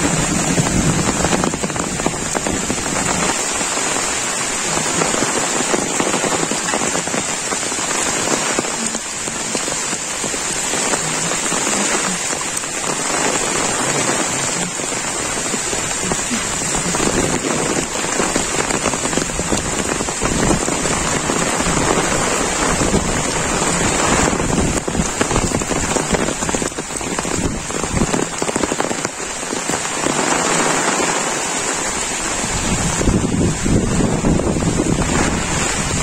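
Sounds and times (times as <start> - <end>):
heavy rain on leaves and pavement: 0.0 - 36.0.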